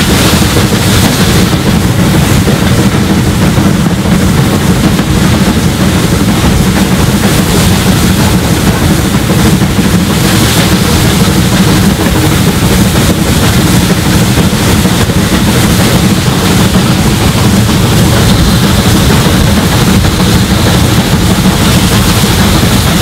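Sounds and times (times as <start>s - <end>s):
steam locomotive exhaust: 0.0s - 23.0s.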